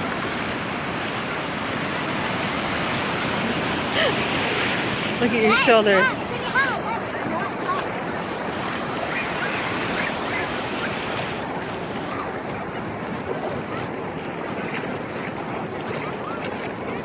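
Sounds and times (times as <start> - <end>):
ocean surf rushing: 0.0 - 17.0.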